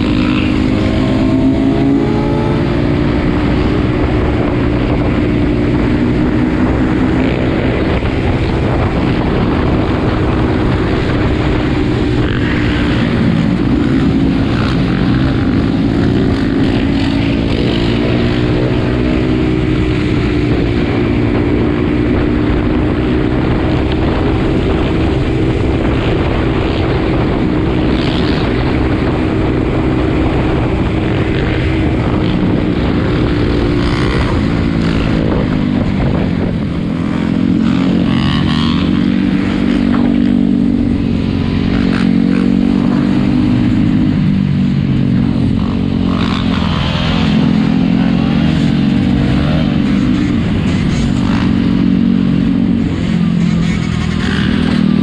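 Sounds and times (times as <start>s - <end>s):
atv and motorbike engines droning: 0.0s - 55.0s.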